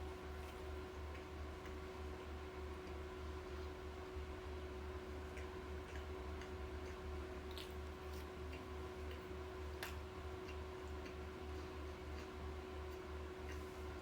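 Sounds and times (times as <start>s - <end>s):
steady pulsing hum: 0.0s - 14.0s.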